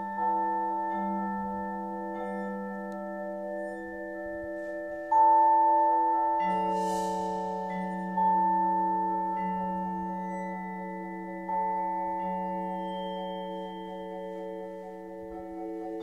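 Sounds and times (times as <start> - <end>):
cymbal shimmer: 0.0 - 16.0
mallet percussion notes ringing: 0.0 - 16.0.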